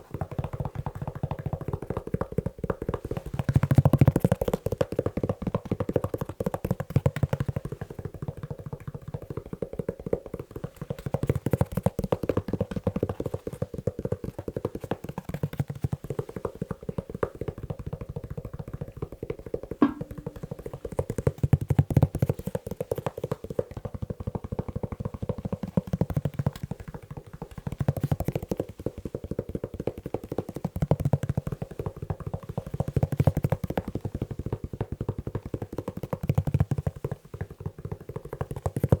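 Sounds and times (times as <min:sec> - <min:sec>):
fingertips tapping on leather shoe: 0:00.0 - 0:39.0.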